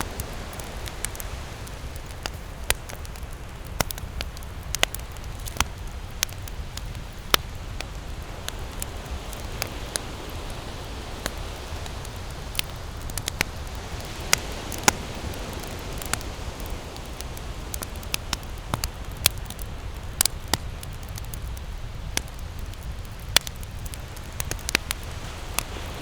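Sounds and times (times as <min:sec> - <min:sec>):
campfire crackling and popping: 0:00.0 - 0:26.0
low rush of flame: 0:00.0 - 0:26.0.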